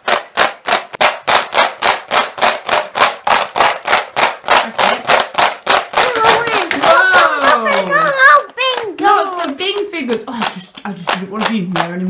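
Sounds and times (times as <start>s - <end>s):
plastic toy figures rattling: 0.0s - 12.0s.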